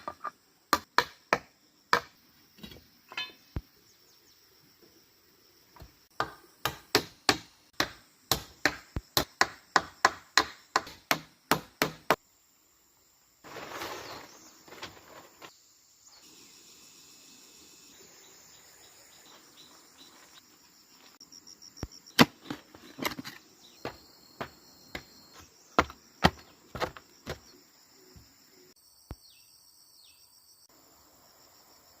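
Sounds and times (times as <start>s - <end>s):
insects chirring: 0.0s - 32.0s.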